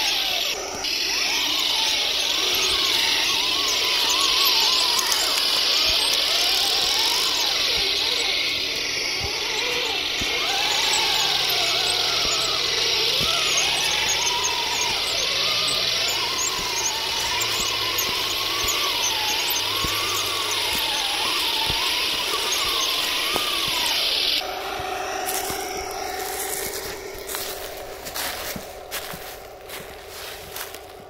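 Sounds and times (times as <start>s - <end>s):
model tank whirring and whining: 0.0s - 31.0s.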